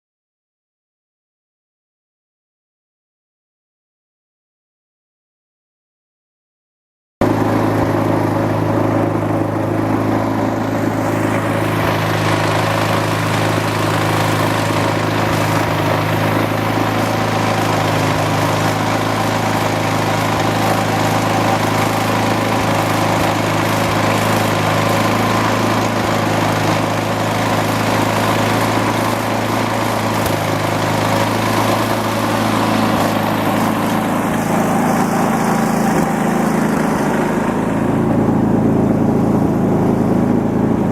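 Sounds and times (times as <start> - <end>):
engine running steadily: 7.2 - 40.9.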